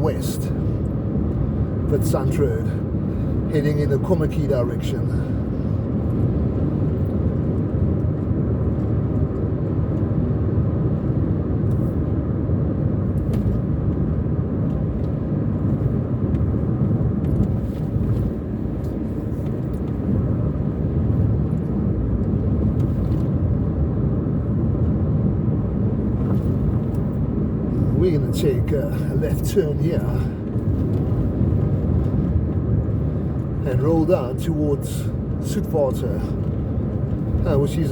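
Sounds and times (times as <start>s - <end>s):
car engine and tyres humming: 0.0s - 37.9s.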